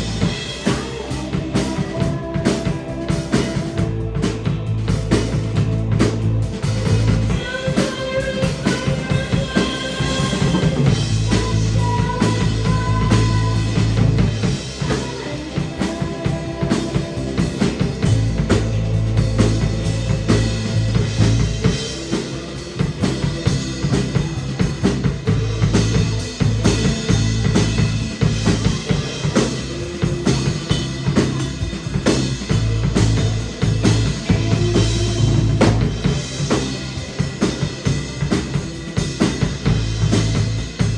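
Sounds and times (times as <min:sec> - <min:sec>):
drum kit: 0:00.0 - 0:40.9
live rock band playing: 0:00.0 - 0:40.9.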